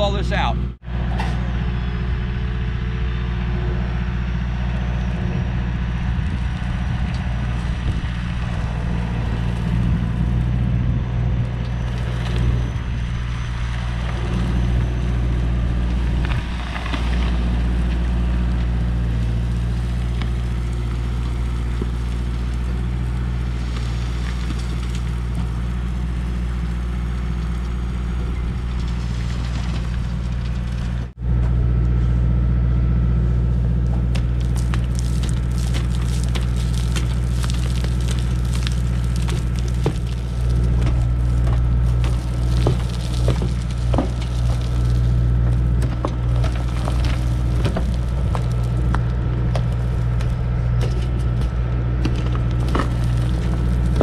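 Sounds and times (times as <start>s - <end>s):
engine humming steadily: 0.0s - 54.0s.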